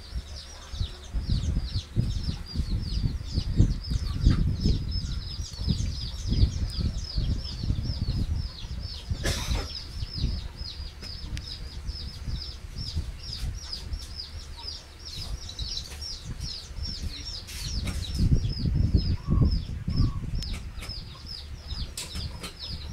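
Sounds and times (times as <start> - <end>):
bird chirping: 0.0 - 22.9
low rumbling thumps: 0.0 - 22.9.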